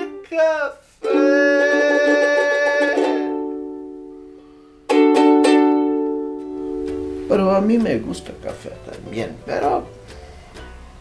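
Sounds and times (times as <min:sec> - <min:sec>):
strummed acoustic string chords: 0:00.0 - 0:11.0.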